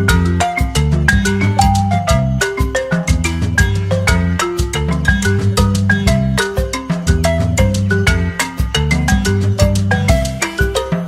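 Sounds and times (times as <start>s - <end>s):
mallet percussion melody: 0.0s - 11.0s
upbeat latin-style music: 0.0s - 11.0s.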